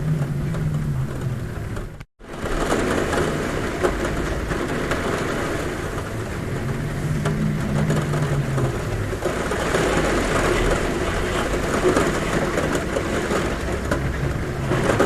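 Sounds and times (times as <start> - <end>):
heavy rain on a roof: 0.0 - 15.0.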